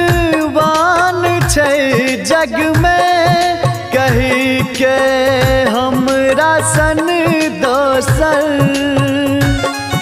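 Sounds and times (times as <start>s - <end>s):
drum beat: 0.0s - 10.0s.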